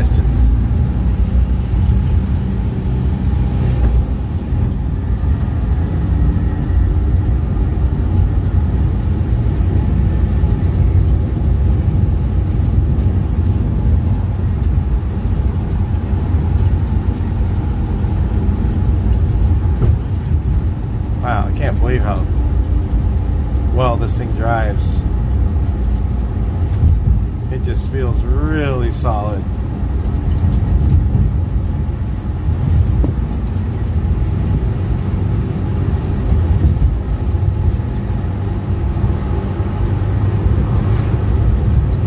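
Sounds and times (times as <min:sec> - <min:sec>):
pickup engine running: 0:00.0 - 0:42.0
road noise: 0:00.0 - 0:42.0.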